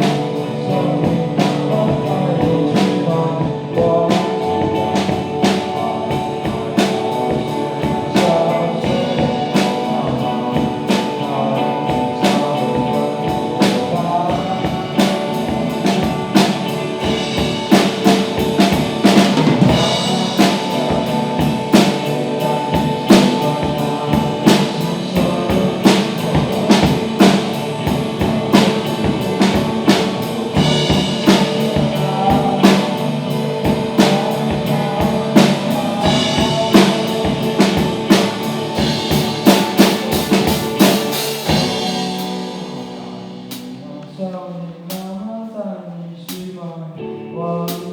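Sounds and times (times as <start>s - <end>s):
drum kit beat: 0.0s - 44.0s
rock band music: 0.0s - 45.1s.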